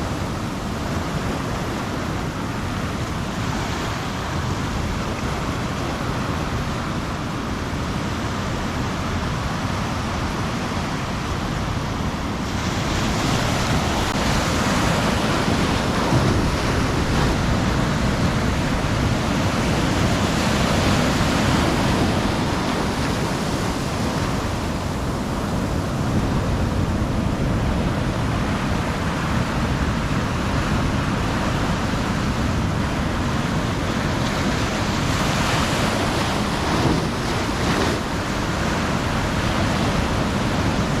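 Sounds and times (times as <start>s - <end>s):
ocean surf breaking on beach: 0.0s - 41.0s.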